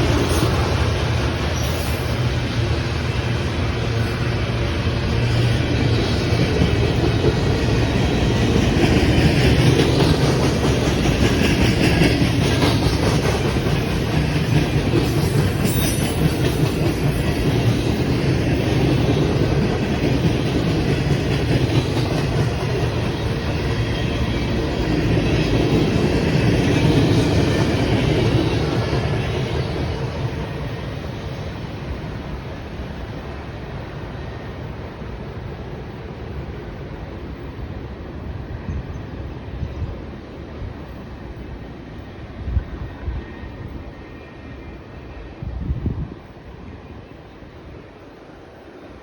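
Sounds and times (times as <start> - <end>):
train wheels rolling on rails: 0.0 - 49.0.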